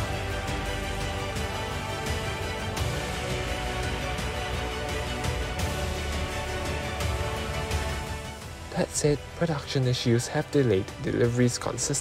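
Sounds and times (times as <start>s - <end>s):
background music with sustained tones: 0.0s - 12.0s.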